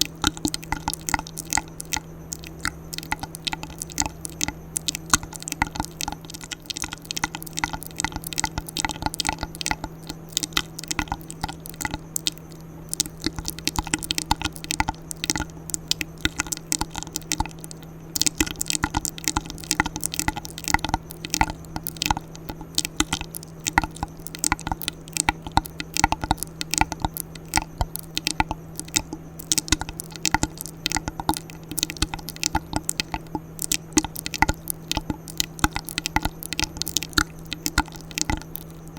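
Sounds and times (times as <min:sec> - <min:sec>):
steady low hum: 0:00.0 - 0:38.9
wet mouth clicks and smacks: 0:00.0 - 0:38.9.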